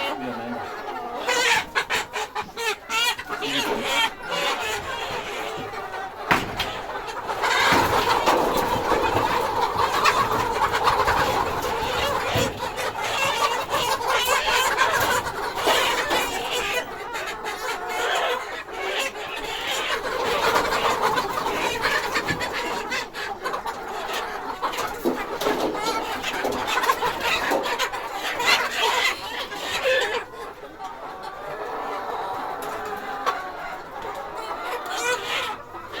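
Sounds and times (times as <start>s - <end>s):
hens clucking: 0.0s - 36.0s.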